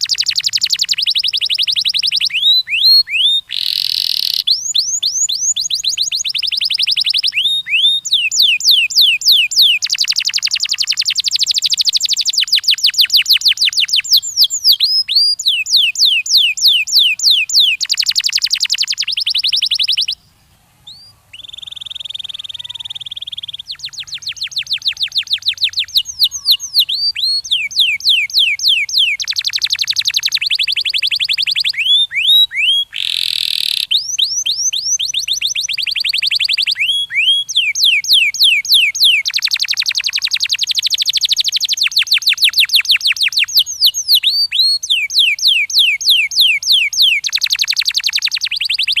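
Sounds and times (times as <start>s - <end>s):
canary singing trills: 0.0s - 49.0s.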